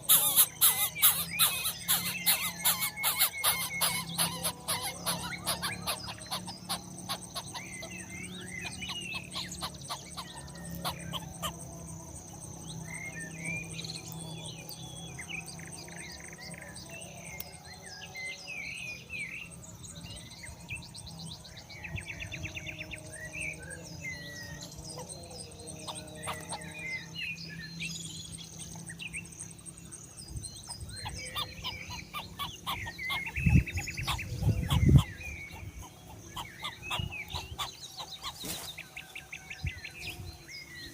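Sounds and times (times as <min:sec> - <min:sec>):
birds chirping: 0:00.0 - 0:40.9
high insect drone: 0:00.0 - 0:40.9.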